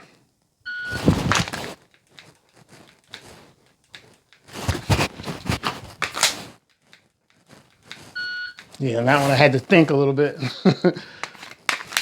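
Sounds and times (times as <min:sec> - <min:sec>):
knocks and rustles of gear: 0:00.8 - 0:10.0, 0:11.2 - 0:12.0.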